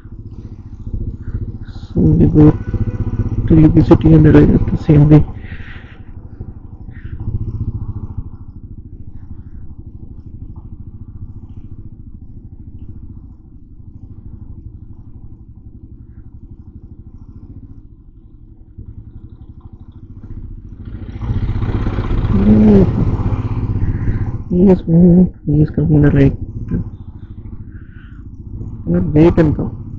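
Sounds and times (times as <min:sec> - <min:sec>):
motorcycle engine rumbling: 0:00.0 - 0:29.9
traffic noise: 0:00.0 - 0:29.9.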